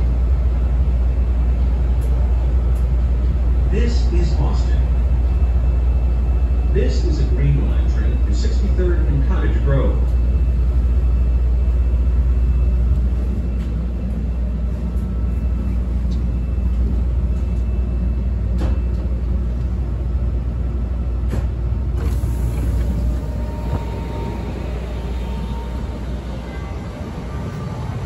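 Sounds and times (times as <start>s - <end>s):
railcar hum and rumble: 0.0s - 28.0s.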